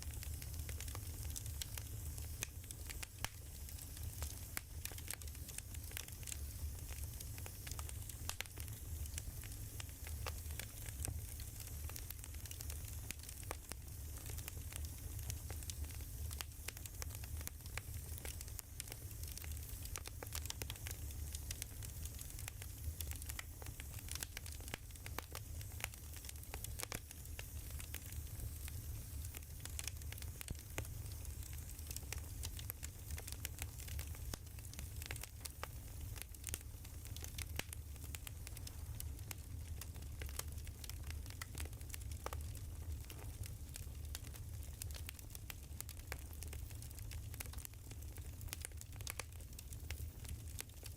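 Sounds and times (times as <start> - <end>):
soft hiss: 0.0 - 50.9
wood fire crackling: 0.0 - 50.9.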